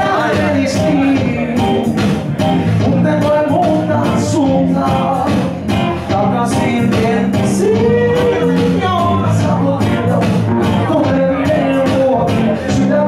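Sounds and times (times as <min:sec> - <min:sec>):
man singing into microphone: 0:00.0 - 0:02.0, 0:02.7 - 0:13.0
electric guitars strumming: 0:00.0 - 0:13.0.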